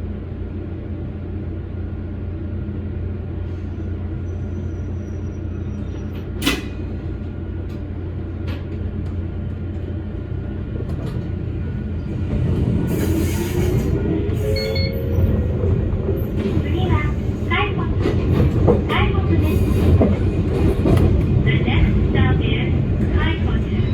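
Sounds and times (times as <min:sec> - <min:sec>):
electric train rumble and hum: 0:00.0 - 0:23.9.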